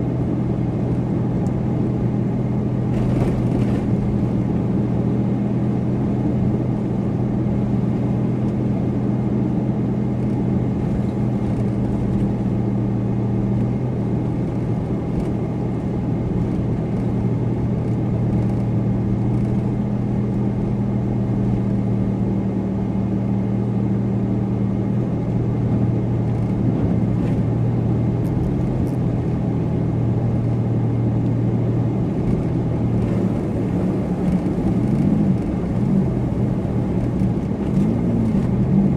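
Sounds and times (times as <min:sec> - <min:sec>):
tyre and road noise: 0:00.0 - 0:06.8, 0:09.9 - 0:21.9, 0:24.9 - 0:38.9
car engine hum: 0:00.0 - 0:38.9.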